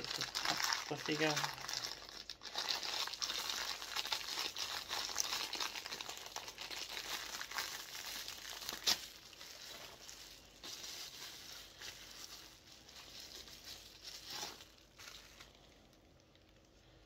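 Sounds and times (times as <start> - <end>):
plastic wrapping crinkling and tearing: 0.0 - 17.0.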